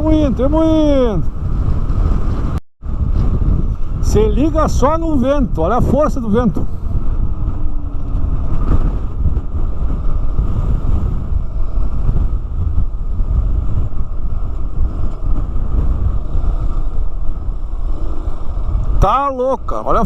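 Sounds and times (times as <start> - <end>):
strong wind on microphone: 0.0 - 20.0.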